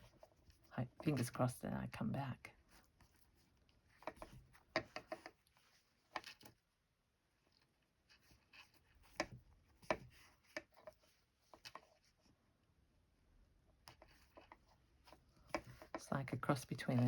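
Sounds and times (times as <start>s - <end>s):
needle and thread through fabric: 0.0s - 1.4s, 2.6s - 6.7s, 7.3s - 12.4s, 13.8s - 17.0s.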